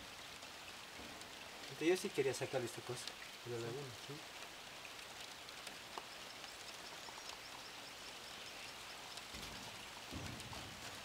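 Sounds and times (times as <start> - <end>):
light rain on water: 0.0 - 11.0.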